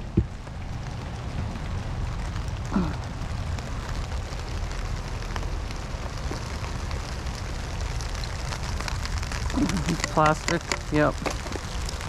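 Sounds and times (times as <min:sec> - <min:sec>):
rain falling: 0:00.0 - 0:12.0
steady low rumble: 0:00.0 - 0:12.0.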